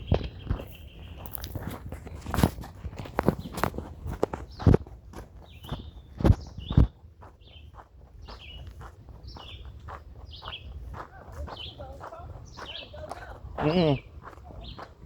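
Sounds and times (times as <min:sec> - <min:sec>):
footsteps crunching on gravel: 0:00.0 - 0:15.0.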